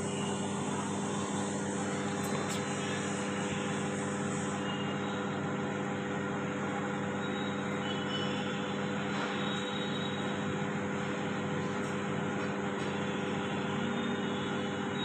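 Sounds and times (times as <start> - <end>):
microwave humming: 0.0 - 15.0.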